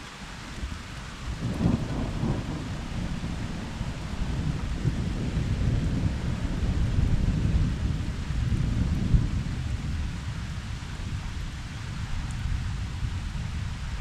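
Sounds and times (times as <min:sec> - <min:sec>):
steady rain: 0:00.0 - 0:14.0
thunder rumbling: 0:01.3 - 0:14.0.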